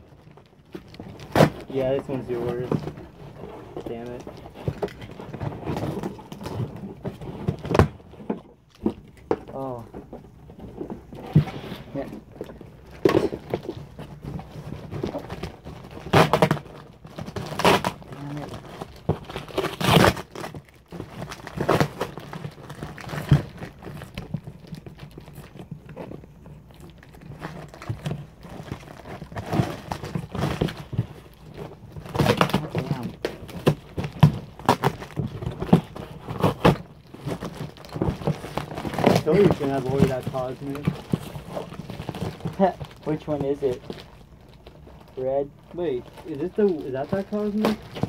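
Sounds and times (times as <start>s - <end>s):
packaging crinkling and rustling: 0.0s - 48.0s.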